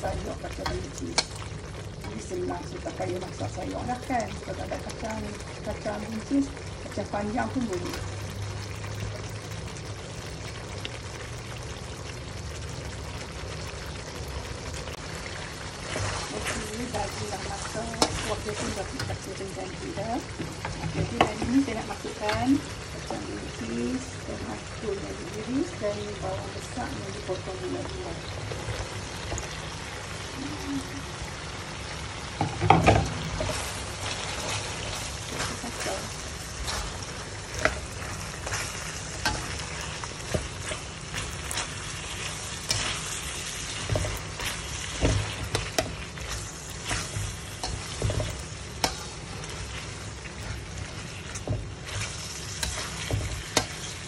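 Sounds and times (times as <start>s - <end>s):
curry bubbling in a wok: 0.0s - 54.0s.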